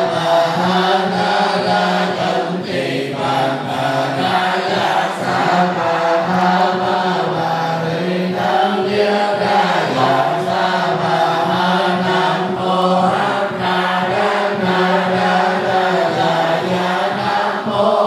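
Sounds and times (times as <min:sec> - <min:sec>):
voices chanting in unison: 0:00.0 - 0:18.0.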